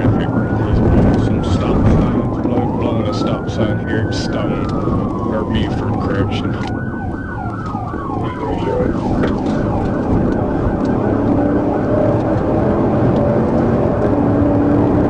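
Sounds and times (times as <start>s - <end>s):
car engine and road noise: 0.0s - 15.0s
police siren yelping: 0.0s - 15.0s.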